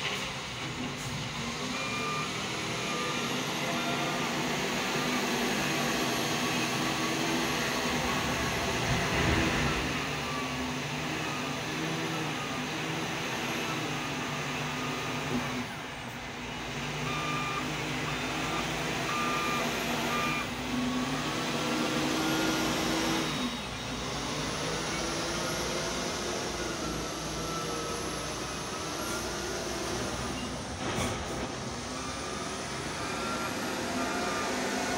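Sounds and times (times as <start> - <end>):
diesel engine revving: 0.1 - 34.9
reversing alarm beeps: 1.4 - 15.7, 16.9 - 34.9.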